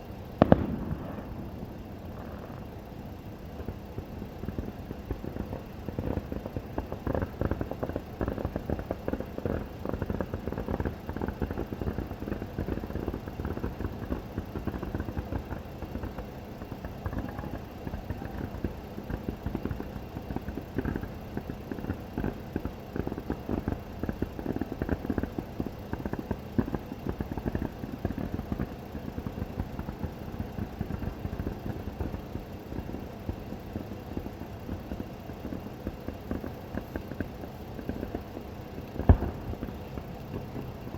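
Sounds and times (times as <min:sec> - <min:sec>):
fireworks booming and crackling: 0:00.1 - 0:40.9.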